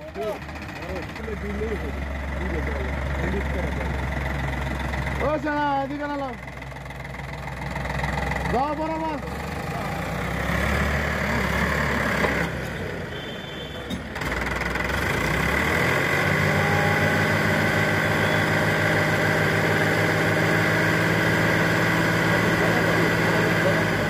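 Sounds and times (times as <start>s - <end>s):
diesel tractor engine running: 0.0s - 24.0s
hydraulics tipping trailer: 0.0s - 24.0s.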